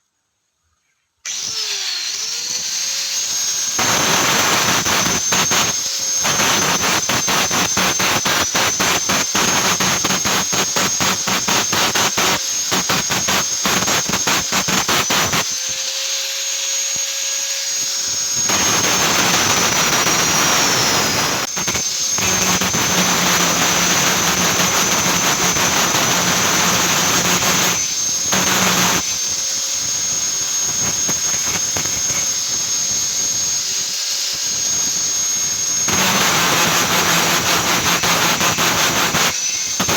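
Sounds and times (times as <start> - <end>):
angle grinder grinding steel: 1.3 - 39.9.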